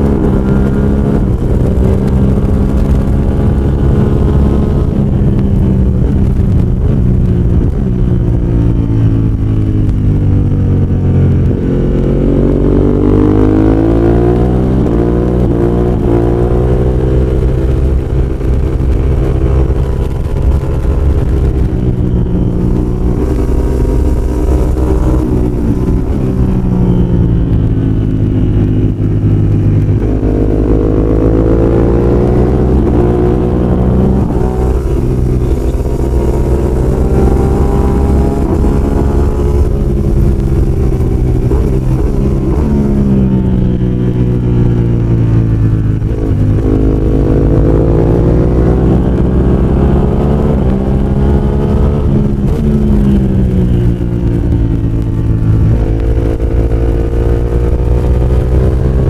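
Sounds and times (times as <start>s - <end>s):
motorcycle engine at racing speed: 0.0s - 59.0s.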